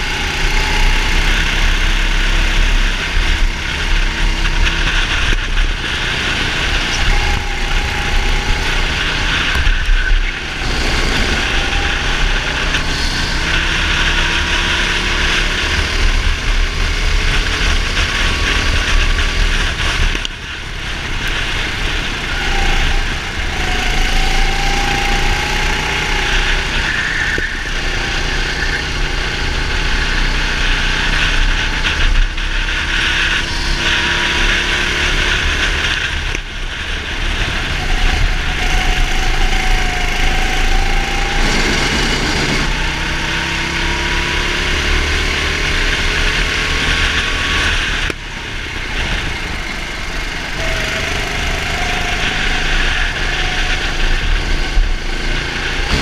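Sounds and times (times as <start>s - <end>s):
go-kart engine running hard: 0.0s - 56.0s
wind rumble on camera: 0.0s - 56.0s.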